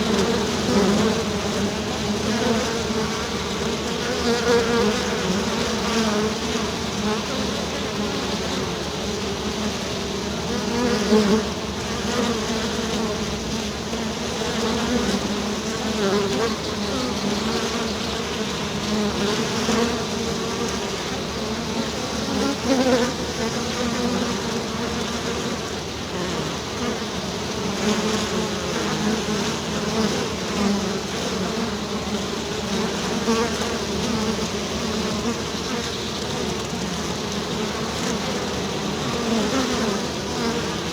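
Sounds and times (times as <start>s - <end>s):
bees buzzing in a swarm: 0.0s - 40.9s.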